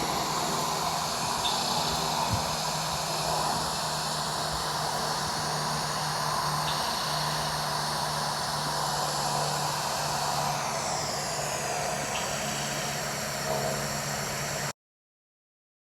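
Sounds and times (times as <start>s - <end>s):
engine drone: 0.0s - 14.7s
falling whine: 0.0s - 14.7s.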